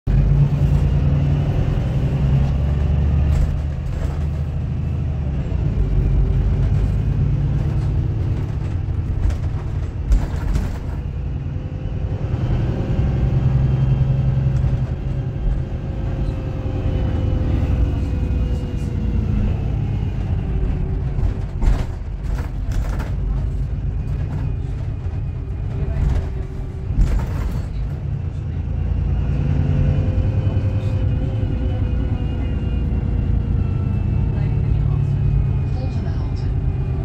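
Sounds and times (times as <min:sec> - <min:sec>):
bus engine rumble: 0:00.0 - 0:37.0.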